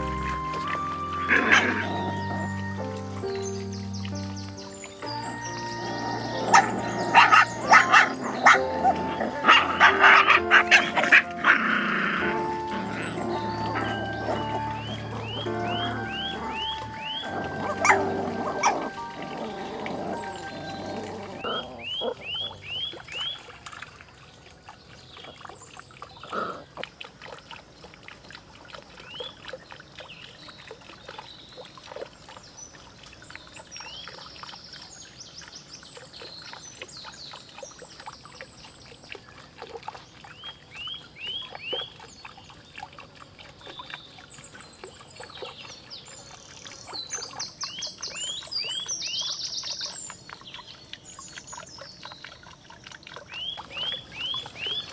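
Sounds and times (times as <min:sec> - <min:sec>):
water trickling and splashing: 0:00.0 - 0:54.9.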